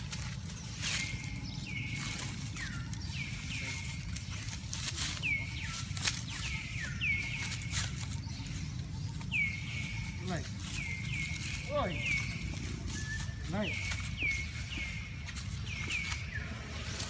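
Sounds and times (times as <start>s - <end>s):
dry leaves crackling: 0.0s - 17.0s.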